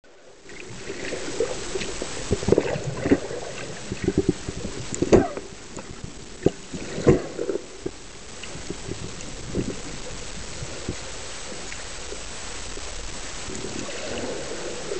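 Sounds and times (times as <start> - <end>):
underwater hiss of moving water: 0.2 - 14.9.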